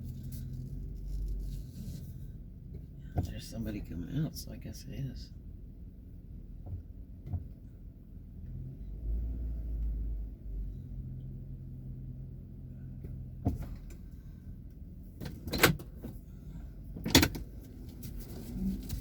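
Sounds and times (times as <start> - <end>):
car engine idling: 0.0 - 8.5, 10.3 - 19.0.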